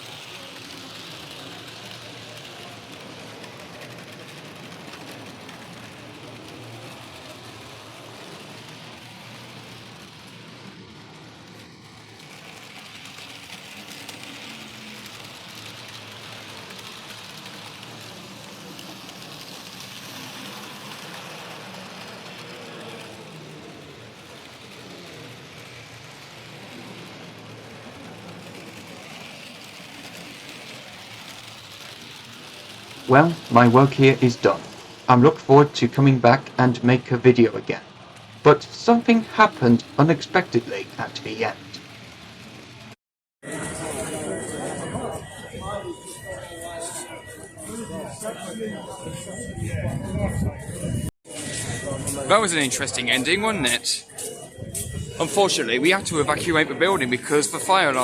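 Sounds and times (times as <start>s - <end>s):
model trains whirring on track: 0.0s - 58.0s.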